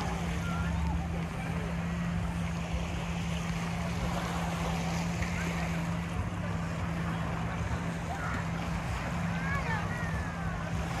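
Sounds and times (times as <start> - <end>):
faint distant voices: 0.0 - 11.0
small waves washing onto beach: 0.0 - 11.0
steady low hum: 0.0 - 11.0.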